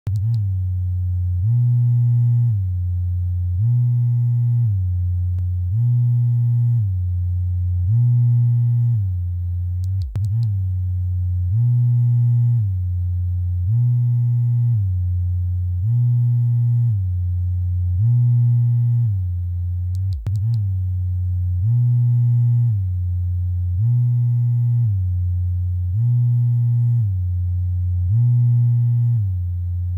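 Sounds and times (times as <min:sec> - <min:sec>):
vibrator buzzing in pulses: 0:00.0 - 0:29.9.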